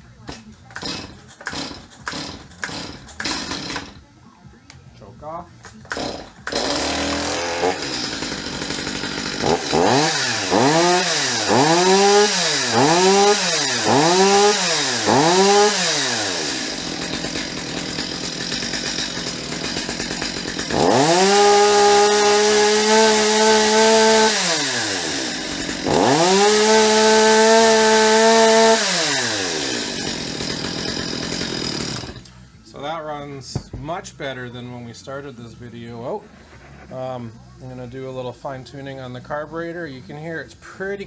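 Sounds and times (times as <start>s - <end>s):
chainsaw revving and idling: 0.1s - 4.1s, 5.6s - 32.6s, 36.2s - 38.2s.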